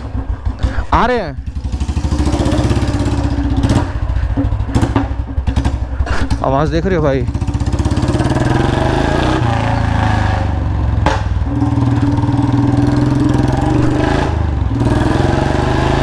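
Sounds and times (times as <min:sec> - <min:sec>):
motorcycle engine thumping: 0:00.0 - 0:16.0.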